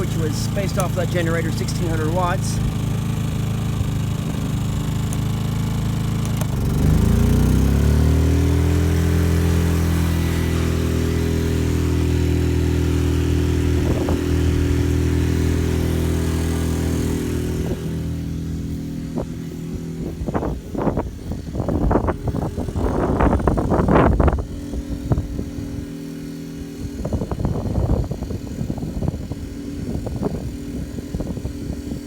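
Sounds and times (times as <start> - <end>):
generator engine running: 0.0 - 32.0.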